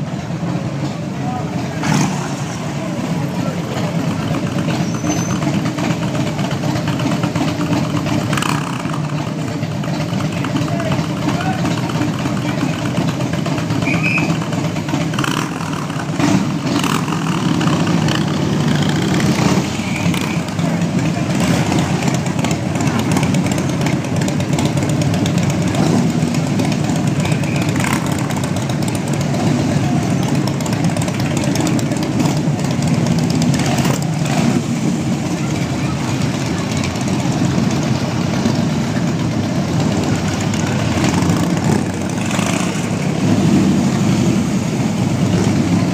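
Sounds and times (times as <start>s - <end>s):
motorcycles rumbling past: 1.6s - 45.9s.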